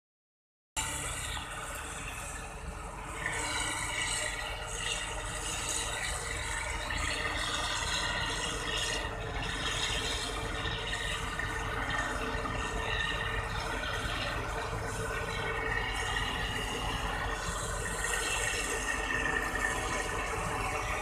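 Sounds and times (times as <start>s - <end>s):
combine harvester engine hum: 0.8s - 21.0s.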